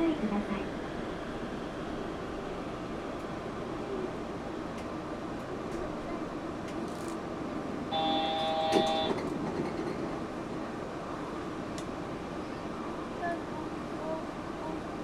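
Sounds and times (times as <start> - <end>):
train car hum and rumble: 0.0 - 15.0.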